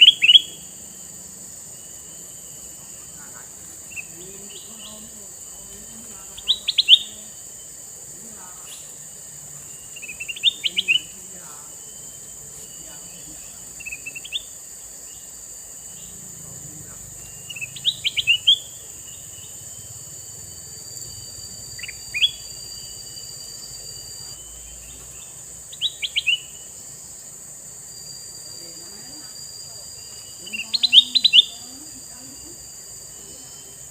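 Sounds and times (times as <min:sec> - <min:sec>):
bulbul calling: 0:00.0 - 0:01.0, 0:02.0 - 0:27.0, 0:30.0 - 0:33.9.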